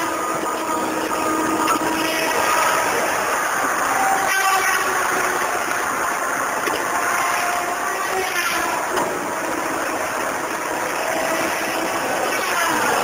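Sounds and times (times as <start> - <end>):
disc saw cutting tree: 0.0 - 13.0
heavy machine engine and hydraulics: 0.0 - 13.0.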